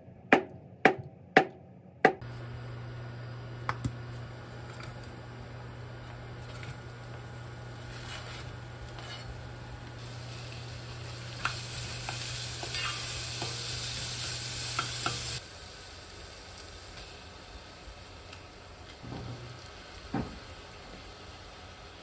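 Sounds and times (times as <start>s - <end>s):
onion sizzling in hot oil: 2.3s - 22.0s.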